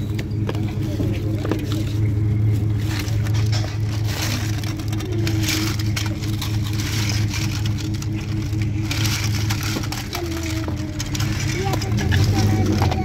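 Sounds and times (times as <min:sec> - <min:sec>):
plastic toys clattering: 0:00.0 - 0:13.0
steady low hum: 0:00.0 - 0:13.0.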